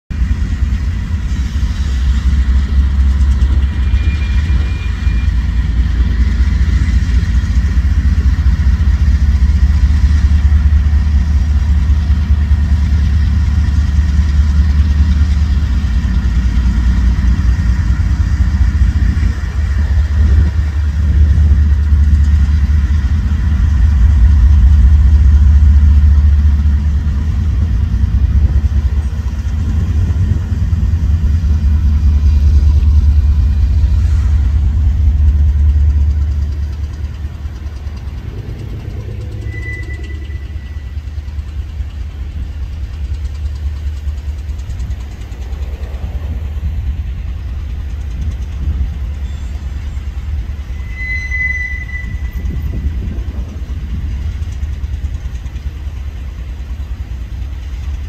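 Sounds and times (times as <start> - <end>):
locomotive engine rumble: 0.1 - 58.0.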